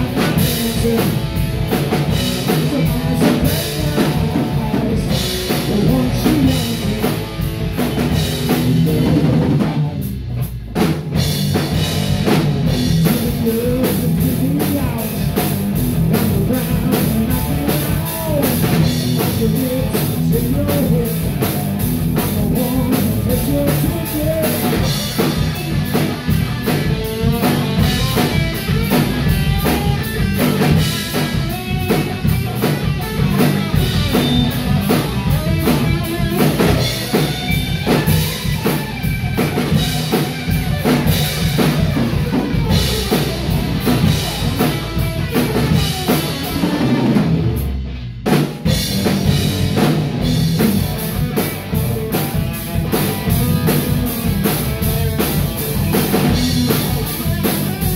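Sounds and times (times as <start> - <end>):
distorted electric guitar: 0.0 - 57.9
drum kit beat: 0.0 - 57.9
electric bass: 0.0 - 57.9
hard rock band playing: 0.0 - 57.9.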